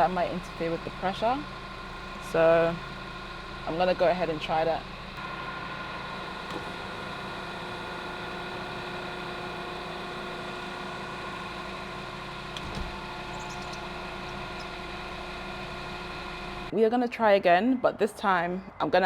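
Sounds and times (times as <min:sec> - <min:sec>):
car engine idling: 0:00.0 - 0:16.7.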